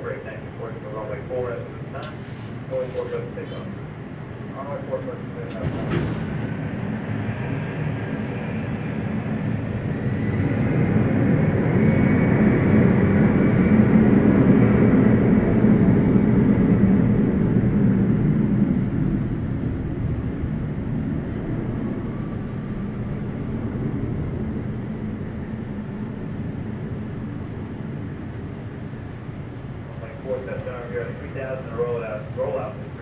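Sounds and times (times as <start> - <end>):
jet airliner engines passing: 0.0 - 33.0.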